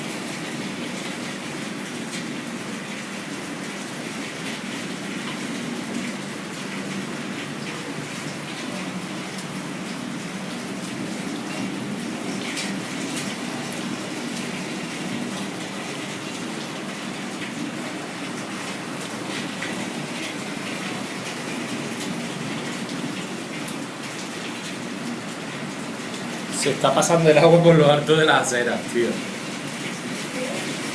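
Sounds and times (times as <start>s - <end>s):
floodwater rushing: 0.0s - 30.9s
heavy rain: 0.0s - 30.9s.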